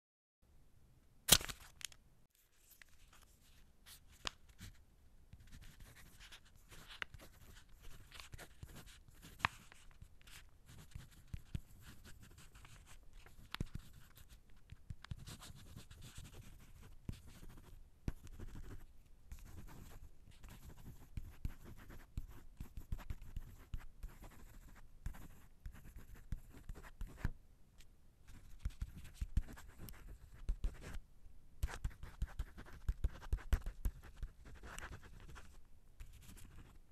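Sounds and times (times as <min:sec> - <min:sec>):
pen scratching on paper: 0:05.4 - 0:27.3, 0:28.3 - 0:31.0, 0:31.6 - 0:36.8.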